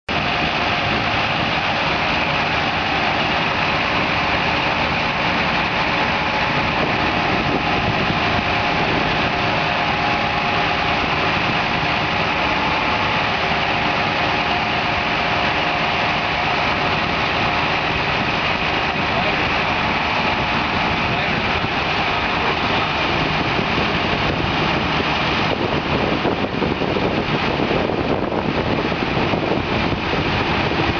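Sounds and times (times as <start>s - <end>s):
forklift engine running: 0.1s - 30.9s.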